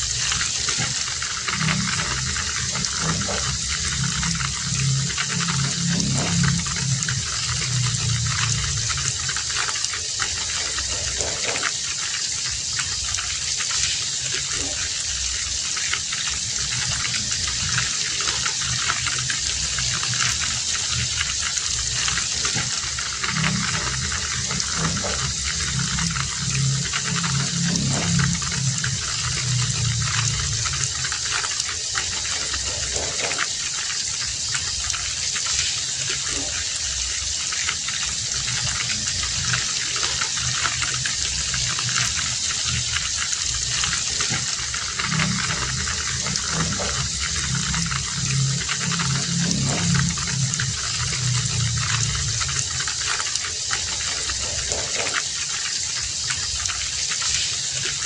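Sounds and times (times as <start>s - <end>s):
low hum: 0.0s - 33.5s, 37.5s - 55.2s
heavy rain falling: 0.0s - 58.0s.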